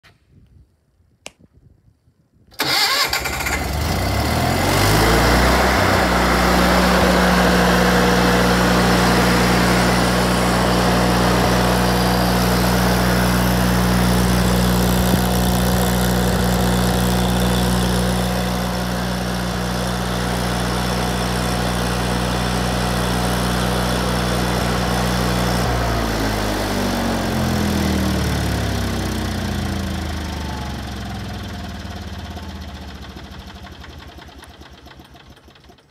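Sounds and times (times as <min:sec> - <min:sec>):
twin-cylinder engine starting and running: 0:02.5 - 0:35.9.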